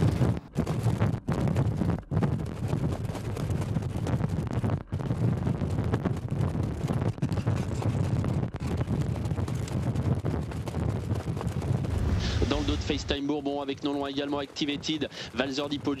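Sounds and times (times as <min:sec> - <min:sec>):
horse hooves trotting: 0:00.0 - 0:16.0
wind buffeting microphone: 0:00.0 - 0:16.0.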